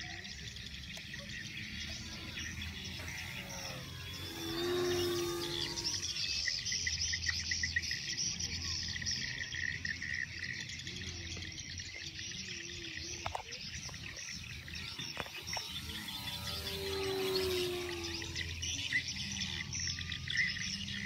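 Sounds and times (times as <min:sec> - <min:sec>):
distant plane engine: 0:00.0 - 0:09.3, 0:12.9 - 0:21.0
bird calls: 0:00.0 - 0:21.0
insects trilling: 0:00.0 - 0:21.0.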